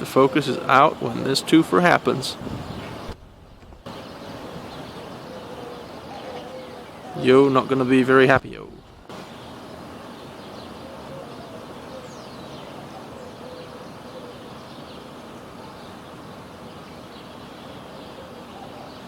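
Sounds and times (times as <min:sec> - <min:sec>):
faint bird chirps: 0:00.0 - 0:16.1
outdoor background noise: 0:00.0 - 0:19.0.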